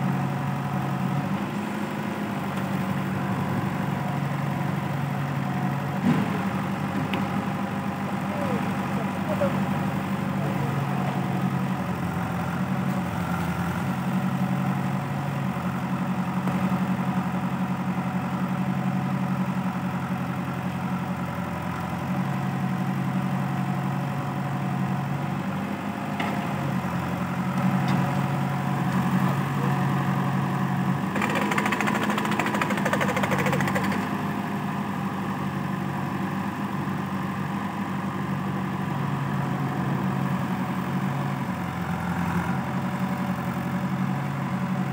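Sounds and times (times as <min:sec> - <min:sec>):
backhoe diesel engine running: 0:00.0 - 0:44.9
tractor engine running: 0:00.0 - 0:44.9.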